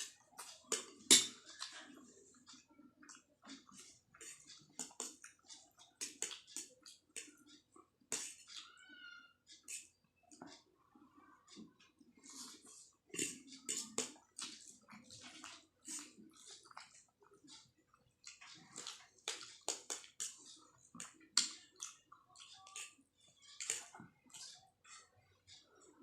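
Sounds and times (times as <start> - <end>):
person slurping and chewing noodles: 0.0 - 8.6, 12.0 - 26.0.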